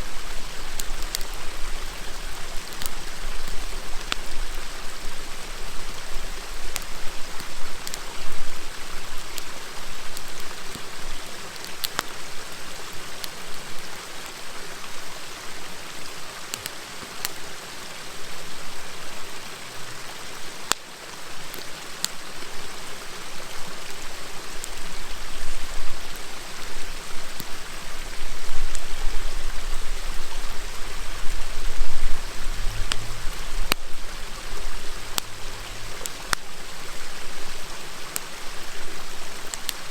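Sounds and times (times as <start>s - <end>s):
campfire crackling: 0.0s - 39.9s
river murmuring: 0.0s - 39.9s.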